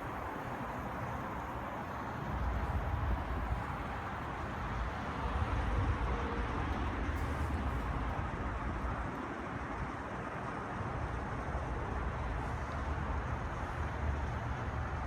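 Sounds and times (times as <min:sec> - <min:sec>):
heat pump steady rushing: 0:00.0 - 0:15.0.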